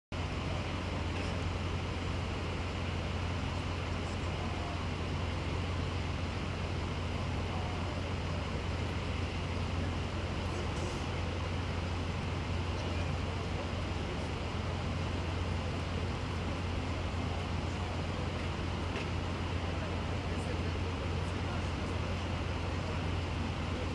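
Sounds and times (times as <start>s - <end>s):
city street traffic: 0.1s - 23.9s
low engine drone: 0.1s - 23.9s.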